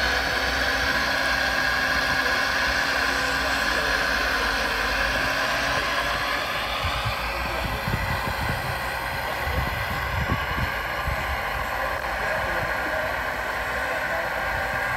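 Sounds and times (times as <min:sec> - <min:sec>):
model machine hum and whine: 0:00.0 - 0:14.9.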